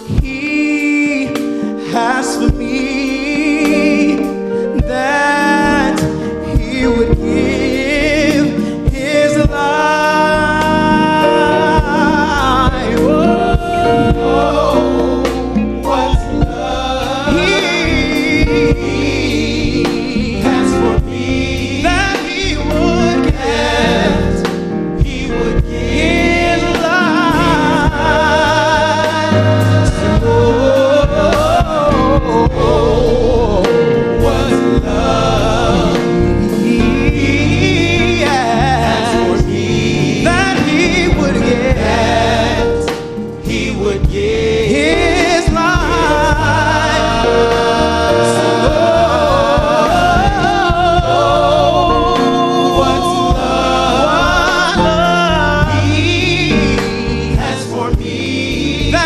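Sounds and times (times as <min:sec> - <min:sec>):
vocal group singing in harmony: 0:00.0 - 0:59.0.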